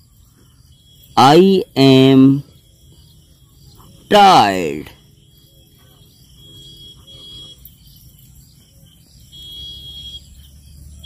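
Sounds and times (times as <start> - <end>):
faint insect chirping: 0.0 - 11.0.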